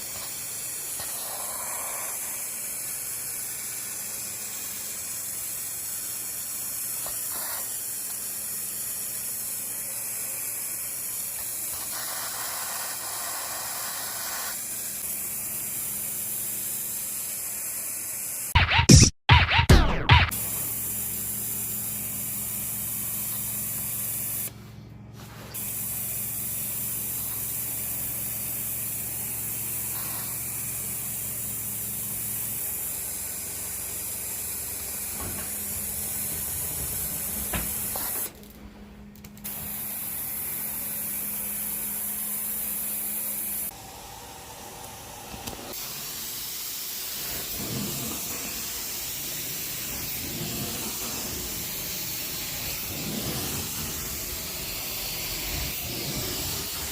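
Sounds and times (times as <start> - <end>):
carpet extraction wand hissing: 0.0 - 18.6, 25.2 - 38.4, 39.4 - 56.9.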